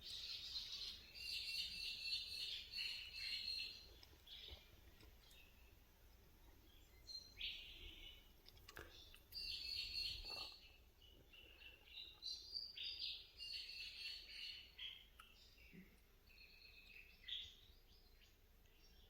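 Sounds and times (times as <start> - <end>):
birds chattering chirps: 0.0 - 5.8, 6.6 - 19.0.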